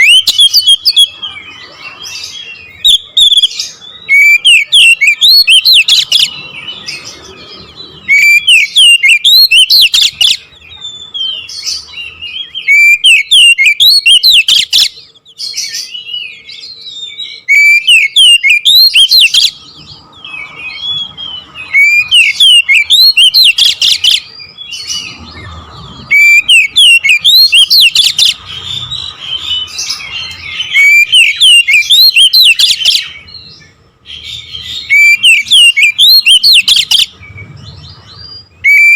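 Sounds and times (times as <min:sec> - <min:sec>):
bird singing whistles and chatters: 0:00.0 - 0:38.9.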